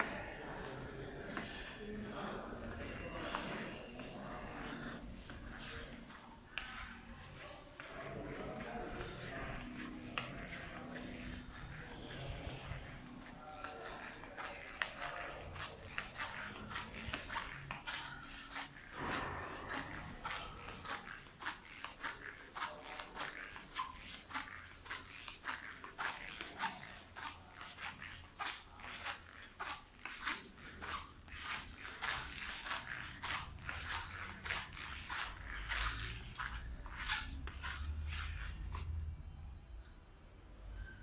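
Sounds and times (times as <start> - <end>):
footsteps on hard floor: 0.0 - 39.1.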